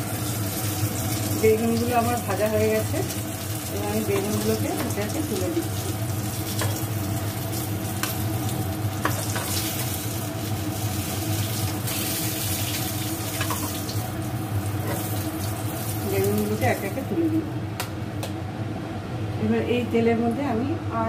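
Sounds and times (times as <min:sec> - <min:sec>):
food sizzling in hot oil: 0:00.0 - 0:17.4
steady low hum: 0:00.0 - 0:21.0.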